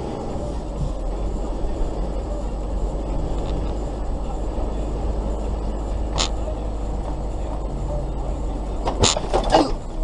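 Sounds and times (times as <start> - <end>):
vehicle rumble and road noise: 0.0 - 10.0.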